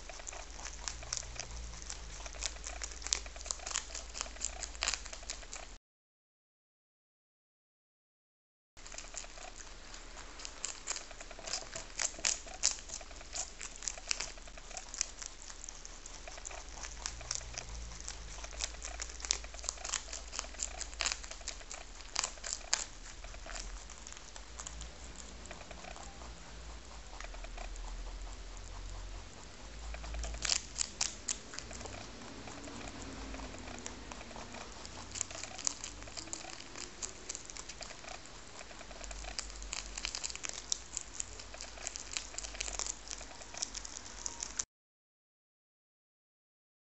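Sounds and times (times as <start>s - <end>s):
rabbits crunching cabbage leaf: 0.0s - 5.8s, 8.8s - 44.6s.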